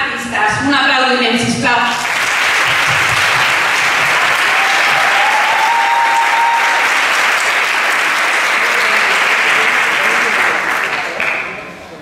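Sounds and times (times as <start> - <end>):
audience applauding: 1.9 - 11.8.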